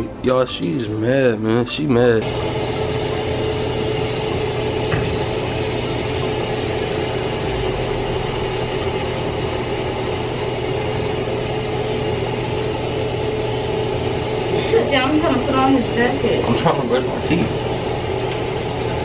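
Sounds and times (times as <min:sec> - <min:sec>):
electric machine hum: 0:02.2 - 0:19.0.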